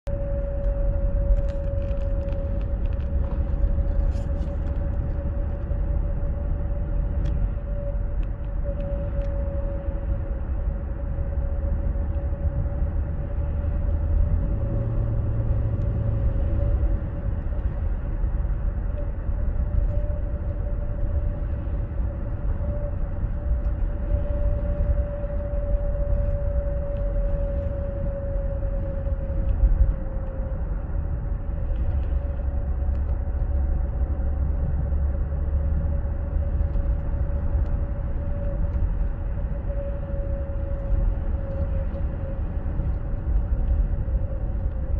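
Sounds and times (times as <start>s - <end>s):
drivetrain whine: 0.0s - 44.9s
low road rumble: 0.0s - 44.9s.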